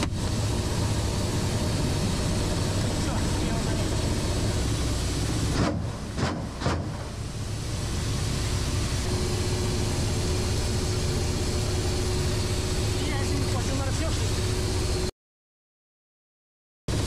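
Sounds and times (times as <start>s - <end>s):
helicopter rotor and turbine: 0.0s - 15.1s.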